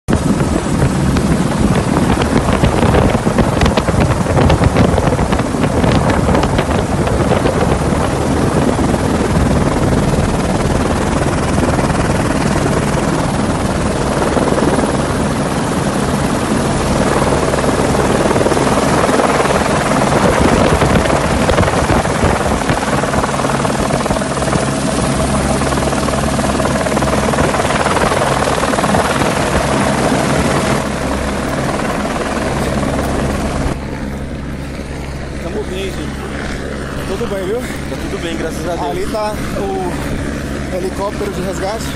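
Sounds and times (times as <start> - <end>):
helicopter rotor hum: 0.0 - 41.9
turbine whine: 0.1 - 41.9.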